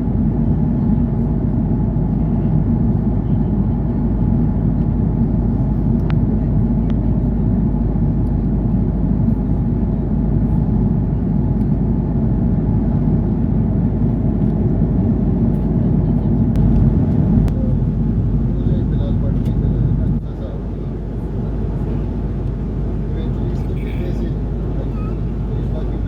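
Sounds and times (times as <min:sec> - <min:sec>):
airliner cabin roar: 0:00.0 - 0:26.0.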